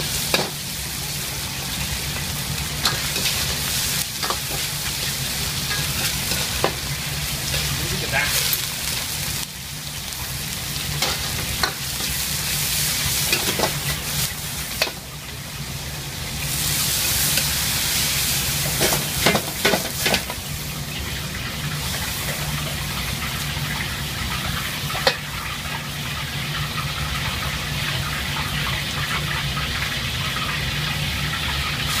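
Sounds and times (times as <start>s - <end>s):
food sizzling in a wok: 0.0s - 32.0s.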